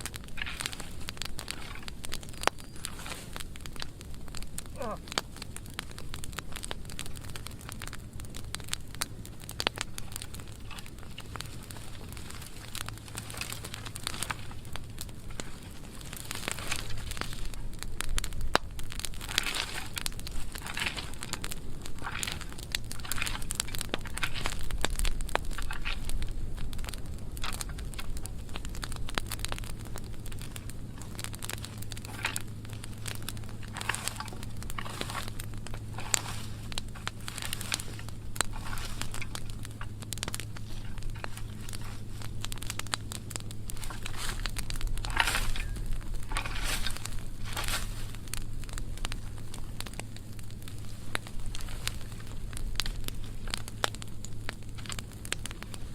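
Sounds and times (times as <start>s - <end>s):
branches crackling and popping in fire: 0.0s - 55.9s.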